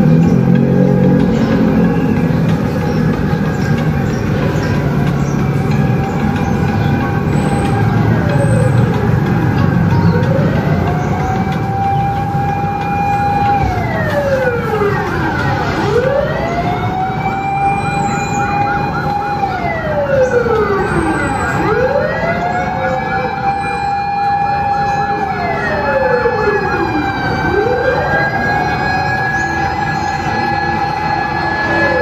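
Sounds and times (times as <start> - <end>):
higher pitched siren: 0.0 - 32.0
siren wailing: 0.0 - 32.0
fast siren warble: 0.1 - 32.0.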